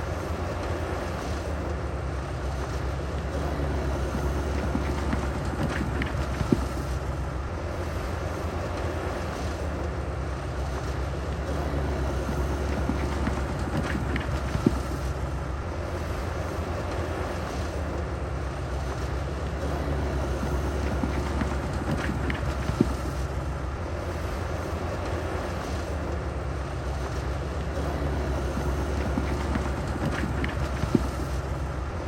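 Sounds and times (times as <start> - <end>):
diesel engine drone: 0.0 - 32.0.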